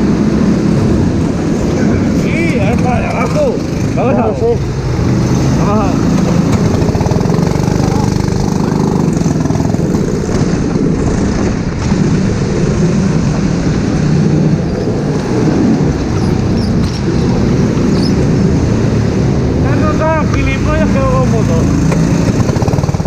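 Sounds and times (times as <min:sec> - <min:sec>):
wind and spray rushing: 0:00.0 - 0:23.0
kart engine revving: 0:00.9 - 0:23.0.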